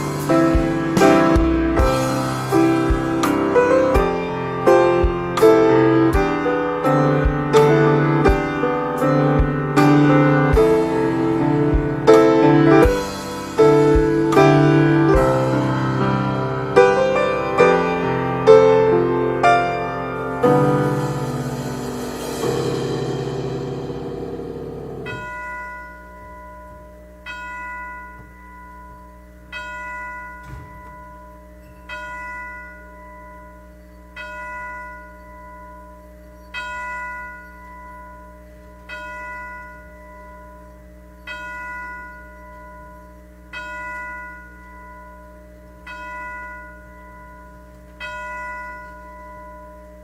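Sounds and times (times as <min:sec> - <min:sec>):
church bell striking: 0:00.0 - 0:50.0.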